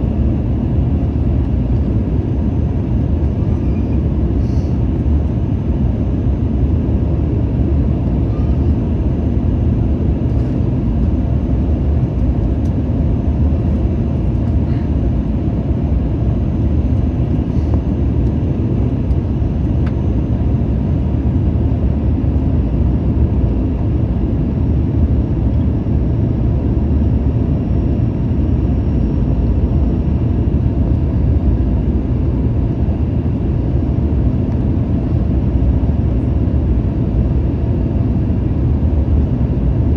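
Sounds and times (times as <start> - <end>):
airplane cabin engine rush: 0.0 - 39.9.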